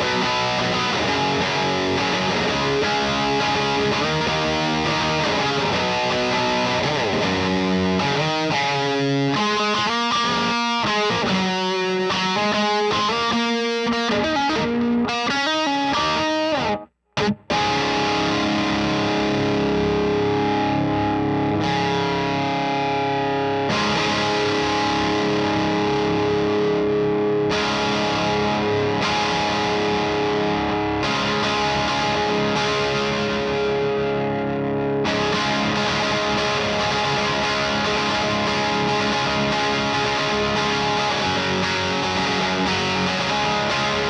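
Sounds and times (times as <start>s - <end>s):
overdriven electric guitar: 0.0s - 44.0s.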